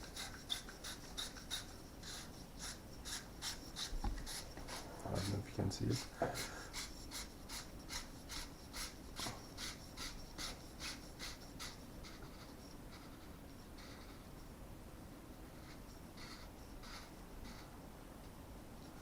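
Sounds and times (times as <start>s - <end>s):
scratchy rubbing strokes: 0.0s - 14.6s, 15.2s - 17.8s.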